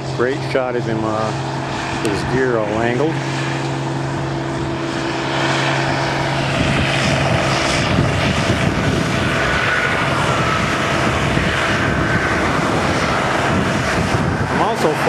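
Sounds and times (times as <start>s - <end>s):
combine harvester engine drone: 0.0s - 15.0s
wind buffeting microphone: 0.0s - 15.0s.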